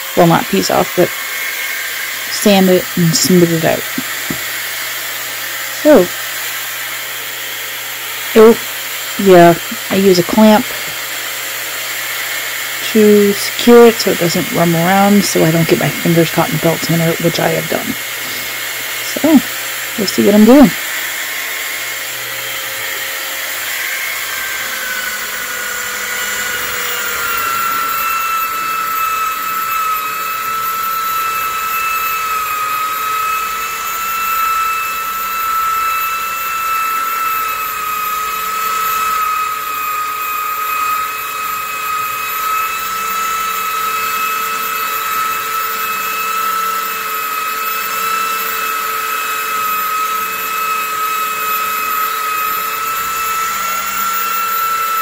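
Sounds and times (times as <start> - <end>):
belt sander on wood: 0.0 - 55.0.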